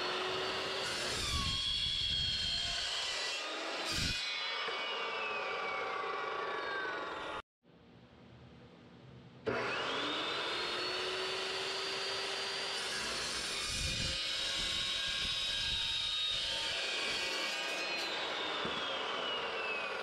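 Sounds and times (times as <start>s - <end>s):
chop saw whine: 0.0s - 7.4s, 9.4s - 20.0s
saw grinding through steel: 0.0s - 7.4s, 9.5s - 20.0s.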